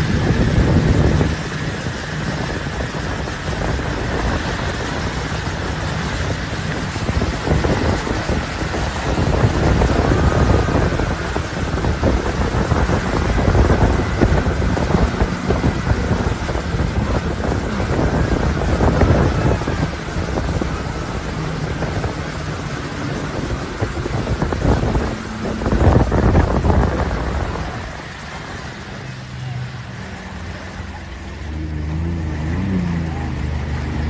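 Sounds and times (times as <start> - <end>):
boat engine running: 0.0 - 34.0
churning wake rushing: 0.0 - 34.0
wind buffeting microphone: 0.0 - 34.0.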